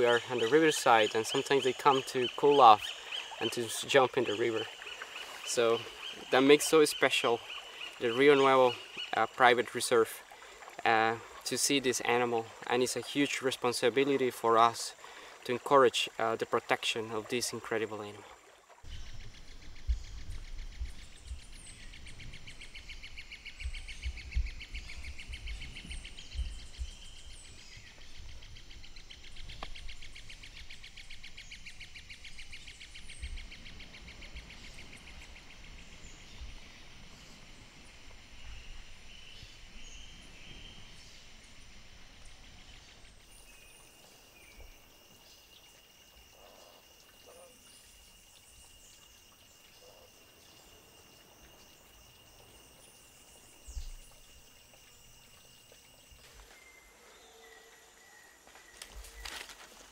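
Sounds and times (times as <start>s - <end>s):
steady high insect drone: 0.0s - 59.9s.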